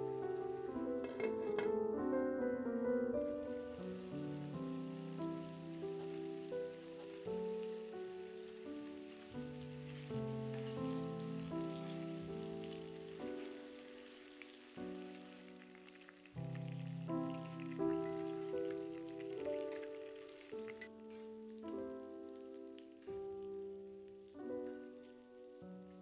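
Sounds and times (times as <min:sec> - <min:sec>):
steady hiss: 0:00.0 - 0:01.4, 0:03.2 - 0:26.0
slow music of held chords: 0:00.0 - 0:26.0
faint crackles: 0:03.2 - 0:26.0.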